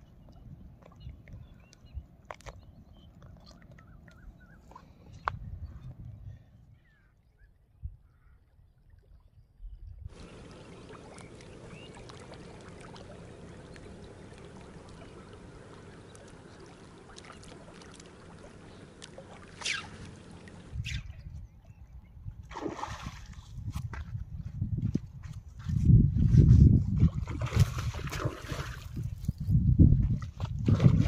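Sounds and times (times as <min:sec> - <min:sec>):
water: 0:00.0 - 0:31.0
wind: 0:00.0 - 0:31.0.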